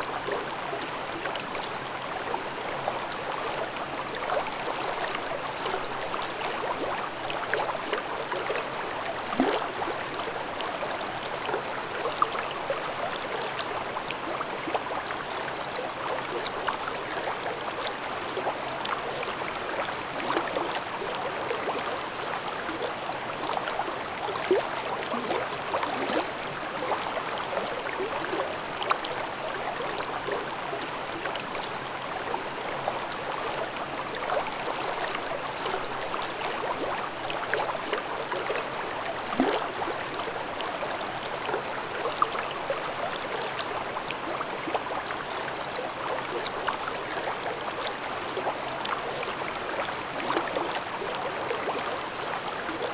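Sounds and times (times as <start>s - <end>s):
stream babbling over rocks: 0.0s - 52.9s.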